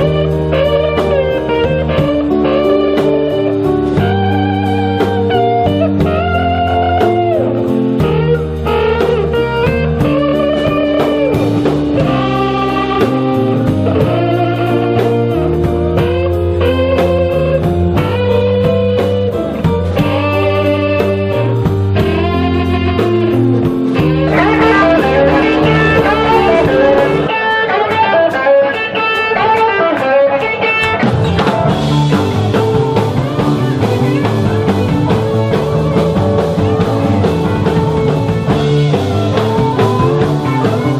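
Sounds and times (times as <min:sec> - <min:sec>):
blues-rock band playing live: 0:00.0 - 0:40.9.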